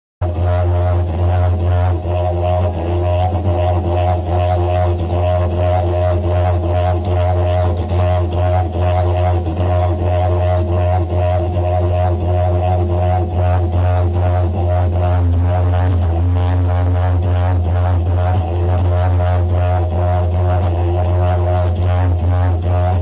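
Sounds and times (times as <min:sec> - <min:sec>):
didgeridoo drone: 0:00.2 - 0:23.0.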